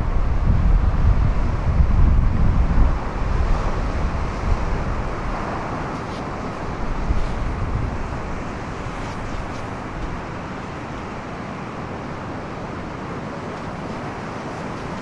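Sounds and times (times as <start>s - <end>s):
wind rumble on microphone: 0.0s - 15.0s
ocean surf breaking on rocks: 0.1s - 15.0s.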